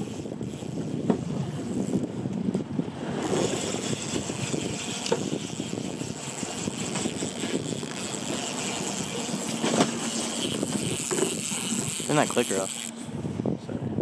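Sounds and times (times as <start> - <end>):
outboard motor running: 0.0 - 2.2, 2.8 - 13.4
wind on microphone: 0.0 - 14.0.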